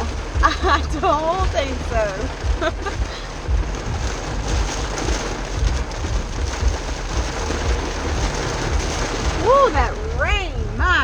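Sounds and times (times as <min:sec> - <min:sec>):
heavy rain hissing: 0:00.0 - 0:11.0
low rumbling: 0:00.0 - 0:11.0.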